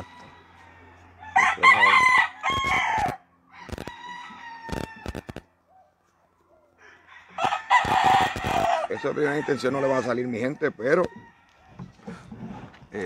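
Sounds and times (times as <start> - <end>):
rooster crowing: 0.0 - 5.4, 6.8 - 12.2.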